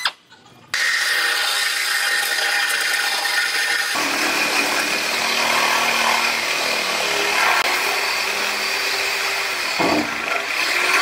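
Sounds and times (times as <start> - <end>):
reciprocating saw cutting metal: 0.8 - 11.0.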